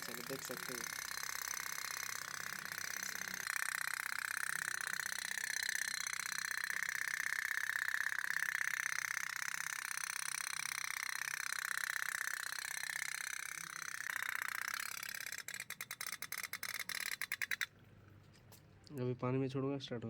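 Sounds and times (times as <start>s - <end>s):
toy steam boat popping: 0.0s - 17.7s.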